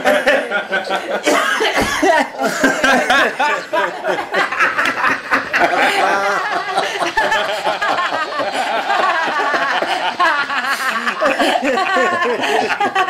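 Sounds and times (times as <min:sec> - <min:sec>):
people laughing hard: 0:00.0 - 0:13.0.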